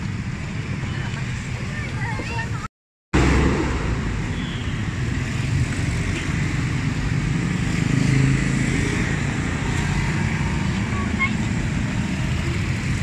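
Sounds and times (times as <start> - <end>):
passing traffic noise: 0.0 - 13.0.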